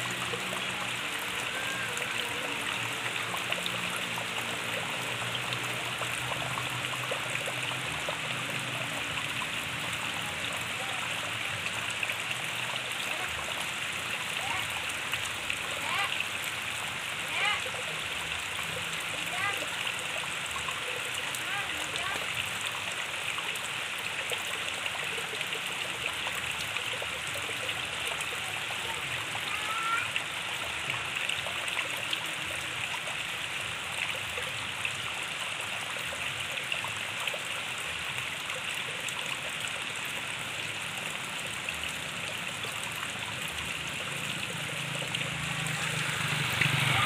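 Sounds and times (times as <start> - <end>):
water trickling and splashing: 0.0 - 47.0.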